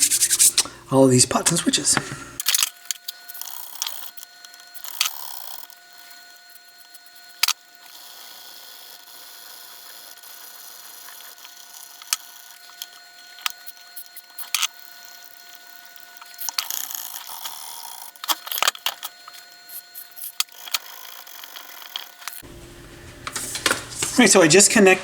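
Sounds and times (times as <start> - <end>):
thin steady whine: 0.0 - 25.0.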